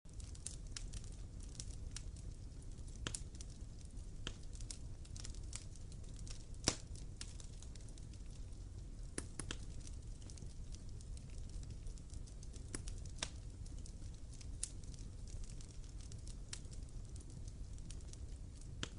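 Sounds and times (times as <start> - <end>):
fire popping and snapping: 0.1 - 18.9
wood fire crackling: 0.1 - 18.9.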